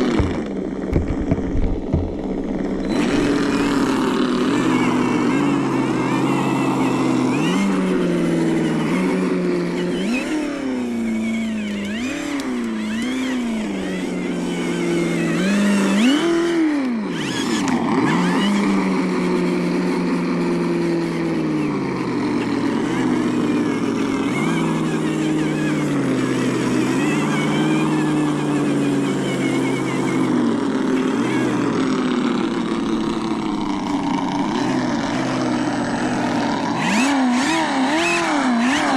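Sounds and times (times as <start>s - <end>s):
electric motor and gears hiss: 0.0s - 38.9s
simulated engine sound from speaker: 0.0s - 38.9s.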